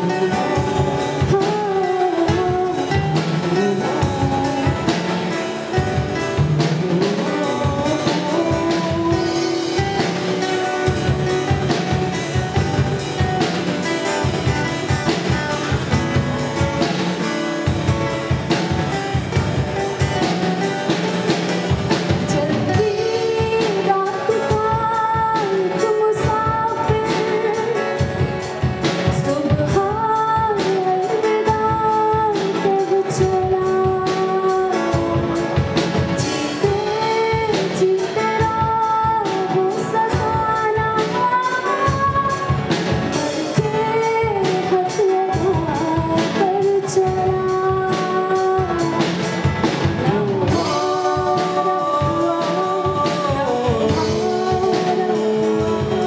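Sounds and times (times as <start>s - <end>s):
acoustic guitars: 0.0s - 56.0s
drum kit steady beat: 0.0s - 56.0s
woman singing: 0.0s - 56.0s.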